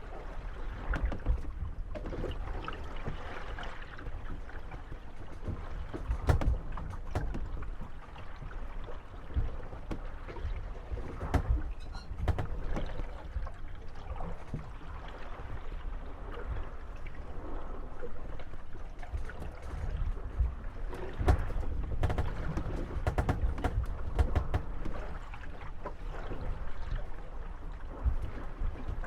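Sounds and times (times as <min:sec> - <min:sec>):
water lapping at hulls: 0:00.0 - 0:29.0
wooden boats creaking and knocking: 0:00.0 - 0:29.0.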